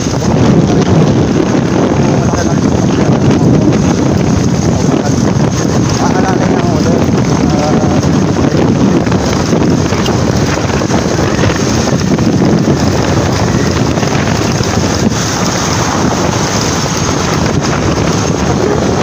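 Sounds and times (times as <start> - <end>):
motorcycle running: 0.0 - 19.0
road noise: 0.0 - 19.0
wind buffeting microphone: 0.0 - 19.0.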